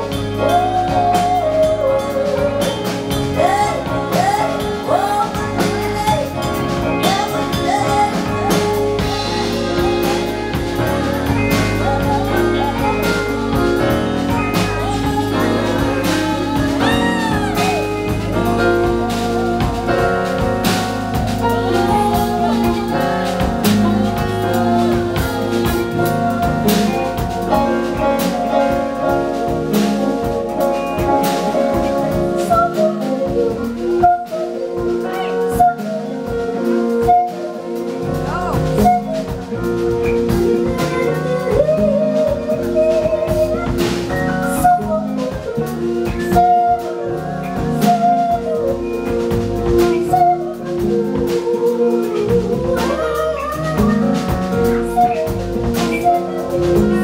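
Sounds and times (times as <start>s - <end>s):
drum kit: 0.0s - 57.0s
electric bass: 0.0s - 57.0s
woman singing: 0.0s - 57.0s.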